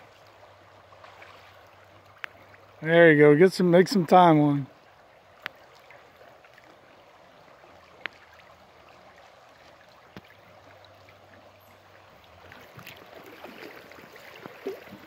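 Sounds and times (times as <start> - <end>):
river running over gravel: 0.0 - 15.0.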